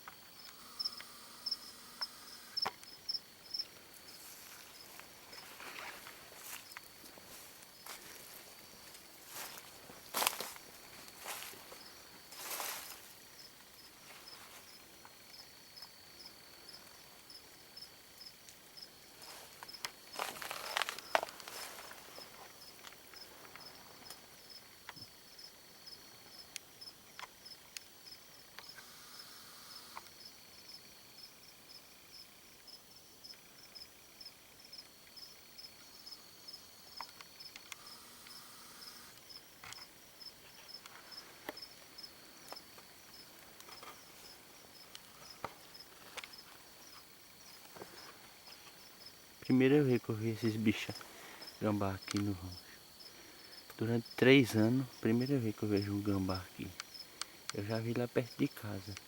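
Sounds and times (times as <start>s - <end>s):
night insects trilling: 0.0s - 59.0s.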